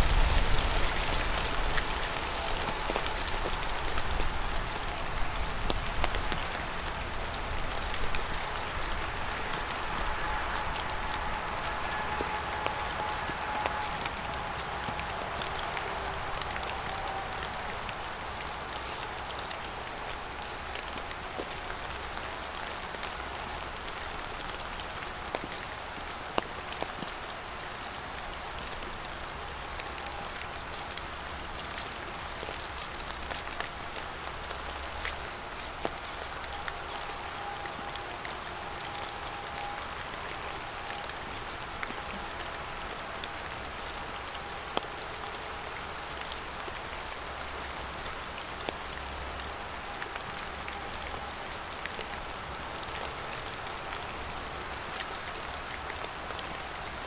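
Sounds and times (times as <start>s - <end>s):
raindrop ticks close by: 0.0s - 57.0s
steady rain hiss: 0.0s - 57.0s.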